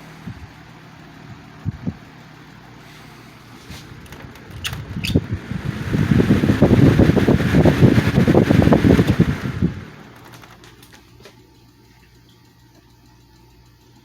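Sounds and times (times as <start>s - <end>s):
box fan running: 0.0s - 14.0s
faint steady hum: 0.0s - 14.0s.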